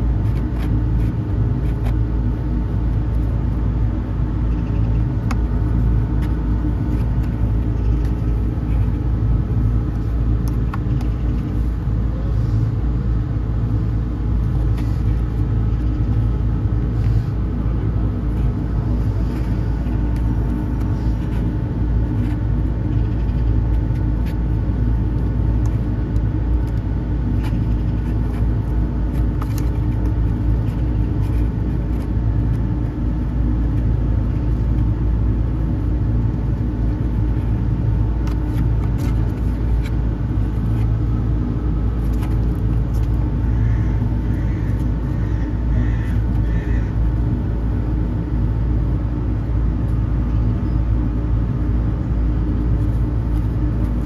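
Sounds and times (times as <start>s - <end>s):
low machine hum and rumble: 0.0s - 54.0s.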